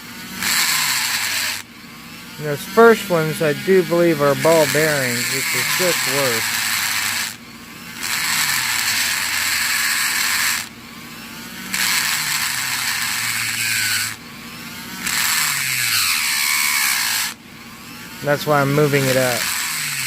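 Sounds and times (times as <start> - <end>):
electric drill grinding into metal: 0.0 - 20.0.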